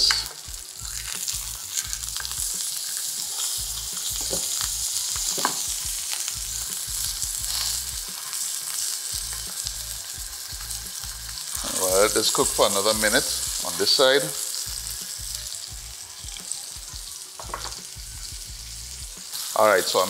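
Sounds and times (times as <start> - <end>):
steak sizzling in frying pan: 0.0 - 20.0.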